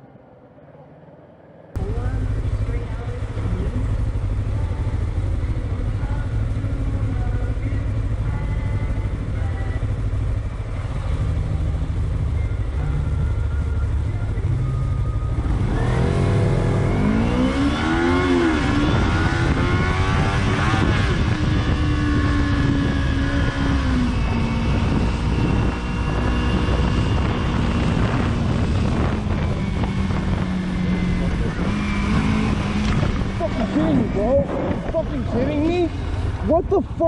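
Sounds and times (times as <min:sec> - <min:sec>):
motorcycle engine running: 0:01.8 - 0:37.0.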